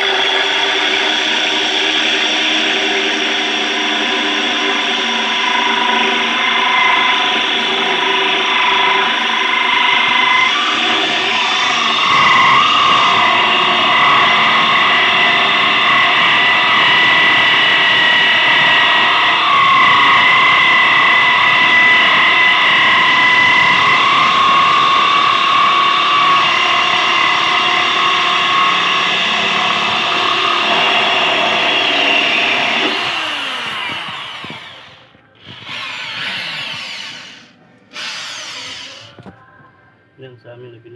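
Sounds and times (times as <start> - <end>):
electric drill grinding through glass: 0.0 - 39.4.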